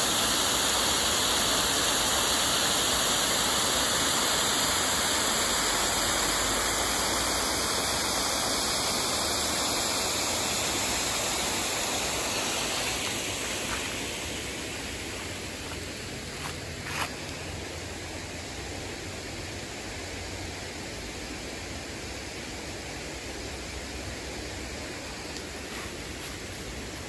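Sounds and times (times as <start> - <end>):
water rushing over dam spillway: 0.0 - 27.0.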